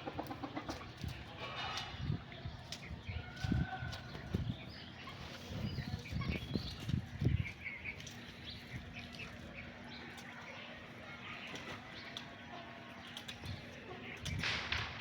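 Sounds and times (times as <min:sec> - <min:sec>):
chickens chirping and peeping: 0:00.0 - 0:15.0.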